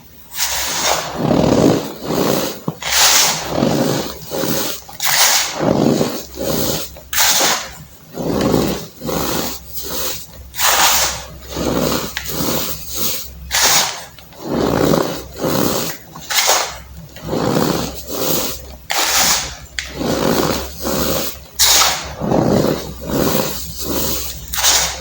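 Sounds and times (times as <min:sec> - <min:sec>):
baking soda crunching: 0:00.2 - 0:25.0.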